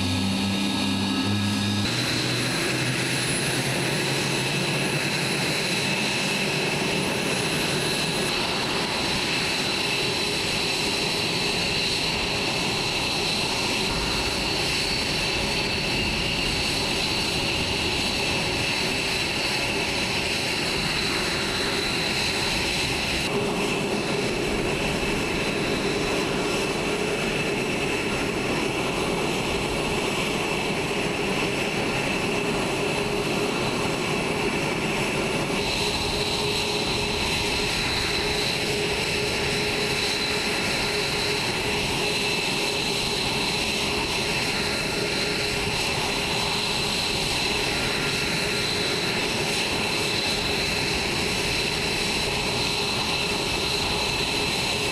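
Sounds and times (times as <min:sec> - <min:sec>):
jet engines idling: 0:00.0 - 0:54.9.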